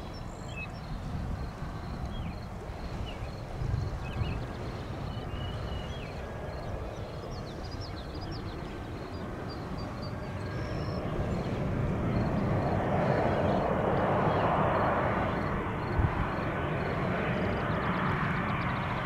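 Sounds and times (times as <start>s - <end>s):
jet airliner engines: 0.0s - 19.0s.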